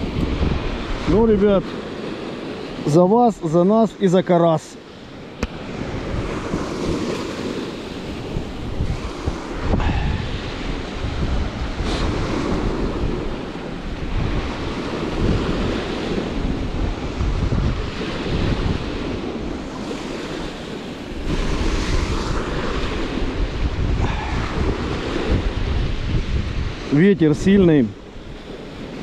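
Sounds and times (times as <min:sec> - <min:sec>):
wind buffeting microphone: 0:00.0 - 0:03.4, 0:05.0 - 0:29.0
waves washing onto shore: 0:00.0 - 0:29.0.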